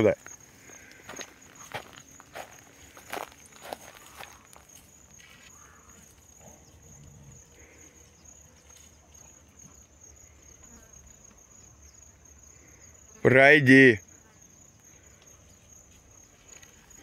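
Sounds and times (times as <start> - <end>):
insect chirring: 0.0 - 17.0.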